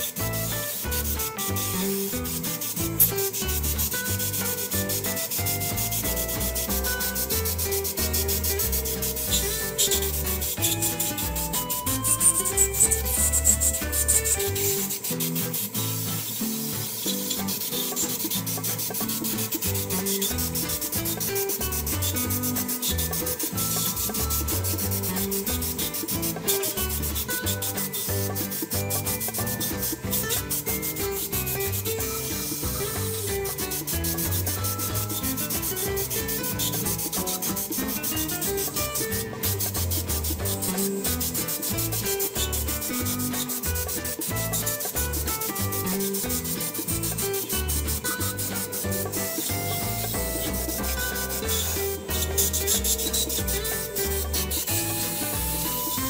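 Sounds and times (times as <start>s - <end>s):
rapid rubbing and rasping: 0.0s - 56.0s.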